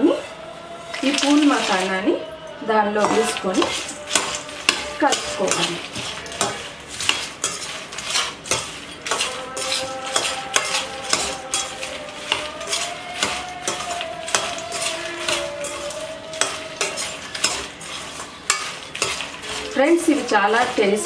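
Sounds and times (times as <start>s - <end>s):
metal spoon scraping steel pan: 0.0s - 21.0s
light sizzle of hot fat: 3.0s - 21.0s.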